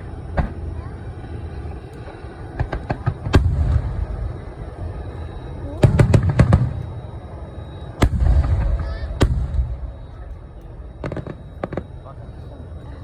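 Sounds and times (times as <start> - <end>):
deep rolling rumble: 0.0 - 13.0
fireworks bursting: 1.6 - 12.3.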